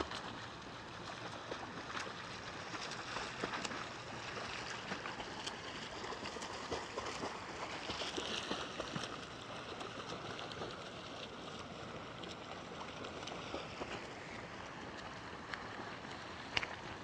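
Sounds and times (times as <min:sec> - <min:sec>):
water lapping against kayak hull: 0:00.0 - 0:17.0.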